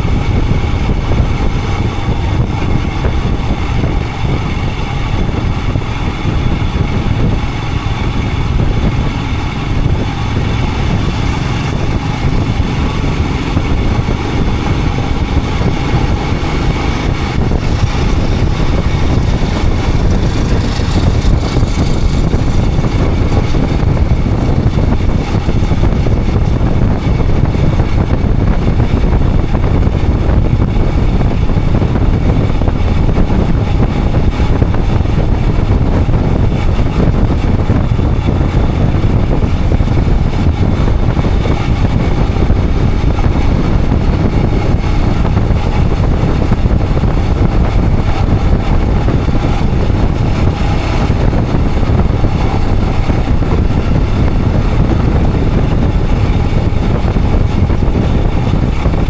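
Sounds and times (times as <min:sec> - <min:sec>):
motorcycle engine running: 0:00.0 - 0:59.0
steady rushing noise: 0:00.0 - 0:59.0.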